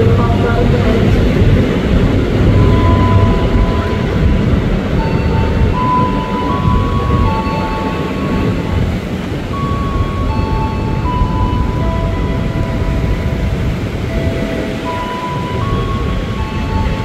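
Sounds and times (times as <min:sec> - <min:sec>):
train wheels rumbling: 0:00.0 - 0:17.0
electric whine tones: 0:01.8 - 0:16.9.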